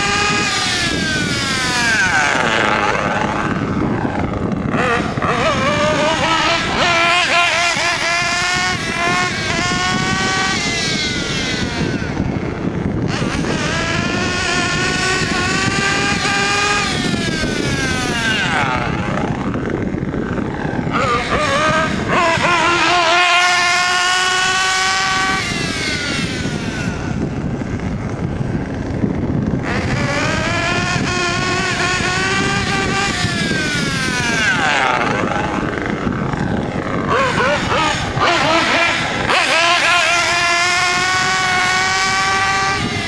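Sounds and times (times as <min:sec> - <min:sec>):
rc car engine buzzing: 0:00.0 - 0:43.0.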